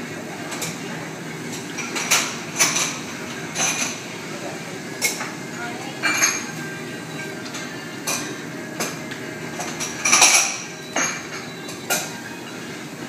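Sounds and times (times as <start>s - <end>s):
steady background hum: 0.0s - 13.0s
dishes and utensils clinking: 0.4s - 12.3s.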